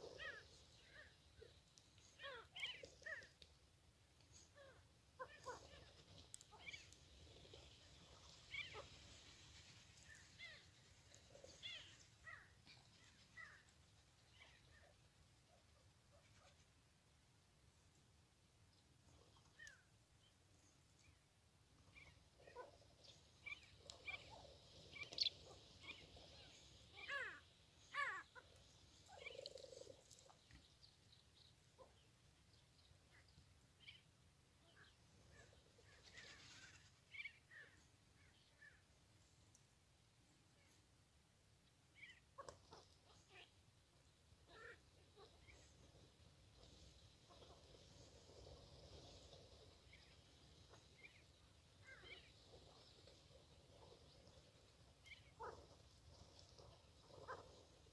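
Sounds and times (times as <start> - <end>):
faint chirps: 0.0 - 16.7, 18.6 - 39.7, 41.9 - 57.9.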